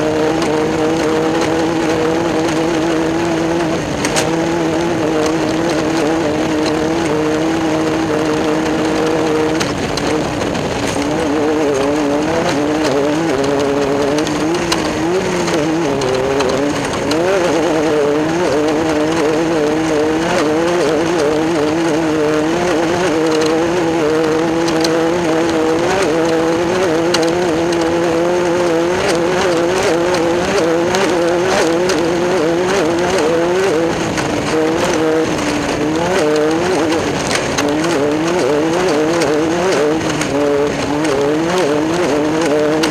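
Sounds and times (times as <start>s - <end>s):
race car engine running hard: 0.0s - 42.9s.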